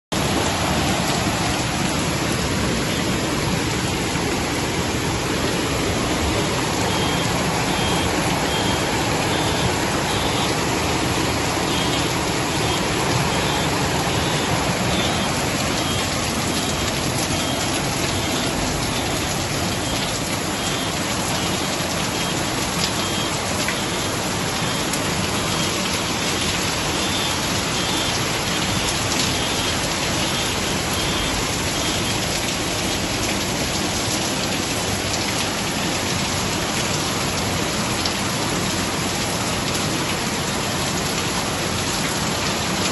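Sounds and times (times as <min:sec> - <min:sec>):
floodwater rushing: 0:00.1 - 0:42.9
heavy rain pouring: 0:00.1 - 0:42.9.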